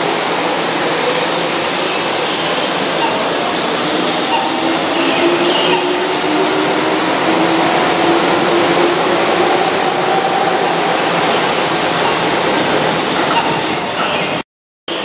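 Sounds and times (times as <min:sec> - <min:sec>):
electric train passing: 0:00.0 - 0:14.4.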